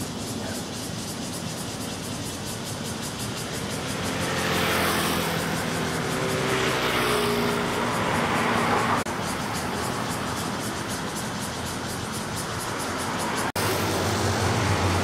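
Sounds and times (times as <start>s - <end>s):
motor vehicle passing by: 2.0s - 15.0s.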